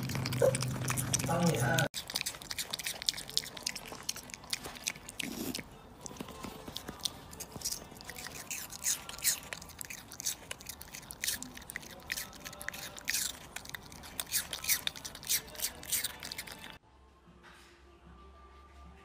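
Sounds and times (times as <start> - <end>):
piglet chewing clicks: 0.0 - 16.8.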